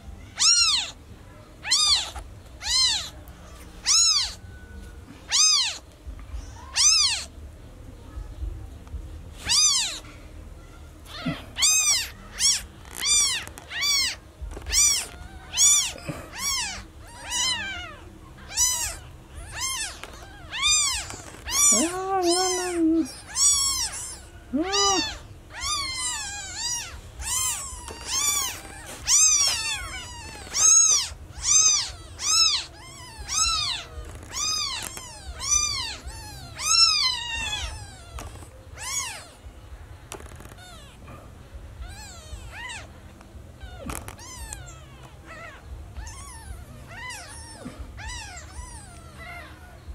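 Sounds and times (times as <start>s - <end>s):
newborn kittens meowing: 0.1s - 1.0s, 1.6s - 7.4s, 9.4s - 10.1s, 11.0s - 49.9s
lower kitten calls: 0.3s - 1.0s, 1.6s - 3.2s, 3.8s - 4.7s, 5.3s - 5.8s, 6.6s - 7.3s, 9.4s - 10.0s, 11.1s - 39.5s, 41.8s - 43.0s, 43.6s - 49.8s.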